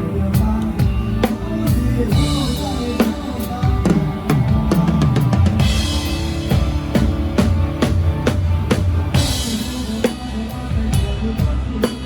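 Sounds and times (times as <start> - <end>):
band bass line: 0.0 - 12.0
drum kit beat: 0.0 - 12.0.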